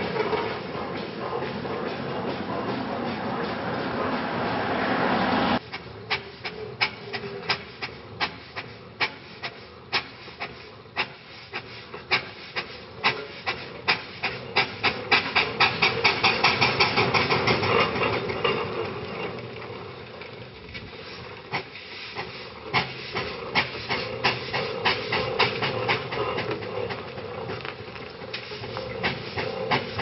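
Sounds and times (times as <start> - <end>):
steam hissing: 0.0 - 18.6, 20.8 - 30.0
steam roller exhaust beating: 0.0 - 30.0.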